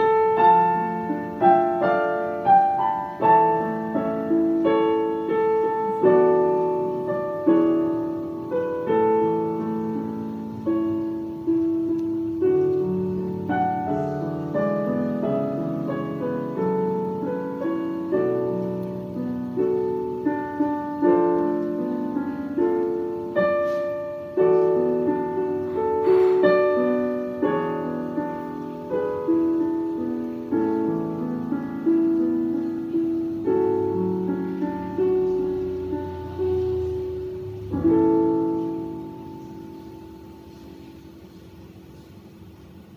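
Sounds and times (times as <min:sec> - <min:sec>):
slow solo piano chords: 0:00.0 - 0:42.9.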